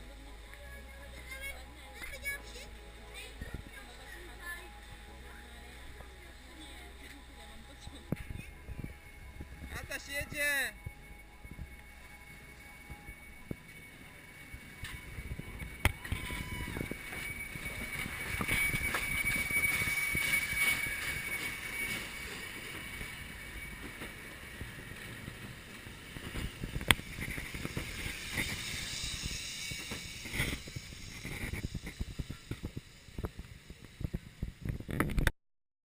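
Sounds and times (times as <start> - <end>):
steady high squeal: 0.0 - 35.3
steam train rumbling past: 0.9 - 34.6.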